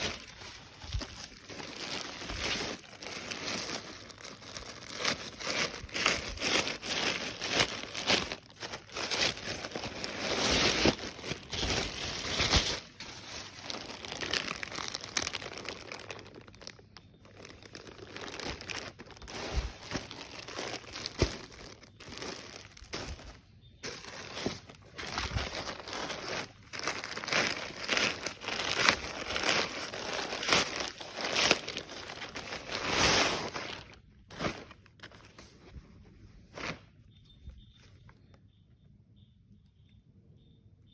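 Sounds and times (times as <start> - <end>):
packaging crinkling and rustling: 0.0 - 38.3.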